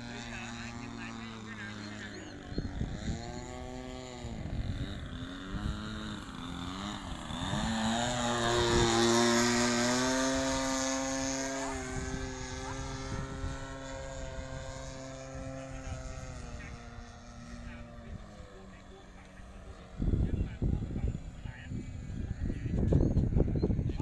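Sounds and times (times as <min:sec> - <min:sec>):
model plane engine in flight: 0:00.0 - 0:24.0.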